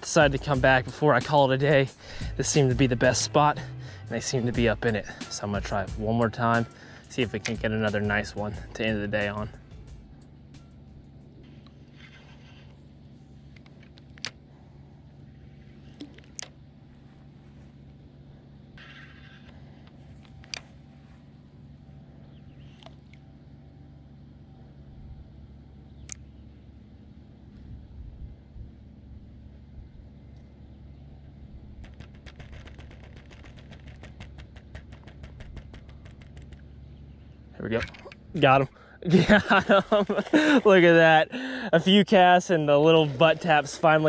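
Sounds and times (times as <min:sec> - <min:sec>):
faint low hum: 0:00.0 - 0:44.0
low background rumble: 0:00.0 - 0:44.0.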